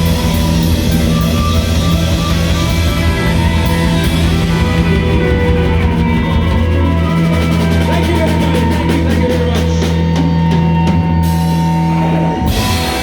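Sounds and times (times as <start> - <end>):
bass and guitar chord: 0.0 - 13.0.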